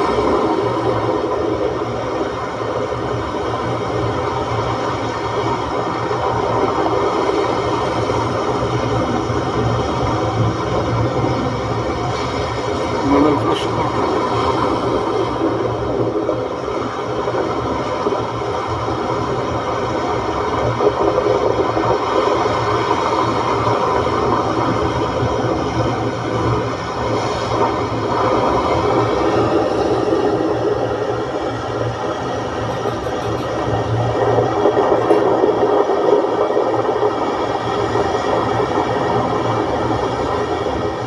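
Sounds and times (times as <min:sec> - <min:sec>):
sea waves washing against shore: 0:00.0 - 0:41.0.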